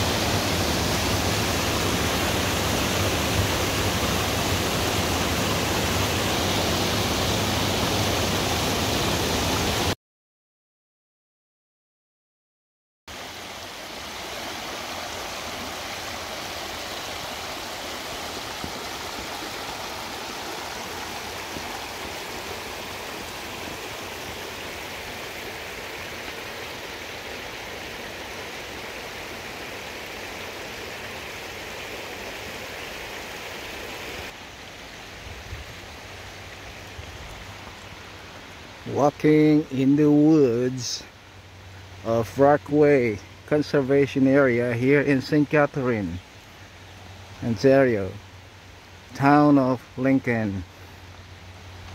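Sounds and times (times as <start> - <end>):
creek running over rocks: 0.0 - 10.0, 13.1 - 51.9.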